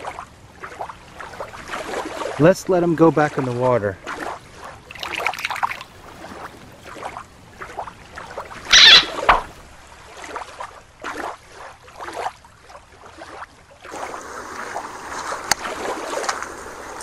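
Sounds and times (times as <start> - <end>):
shallow water splashing: 0.0 - 17.0.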